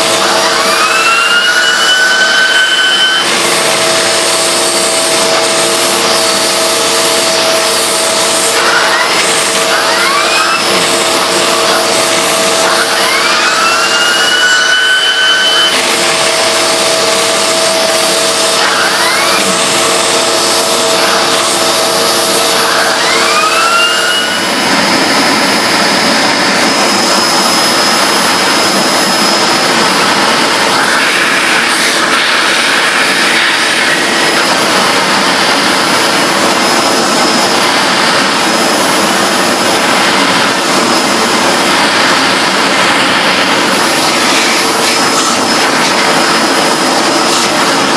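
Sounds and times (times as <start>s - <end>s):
vacuum cleaner whining: 0.0s - 47.9s.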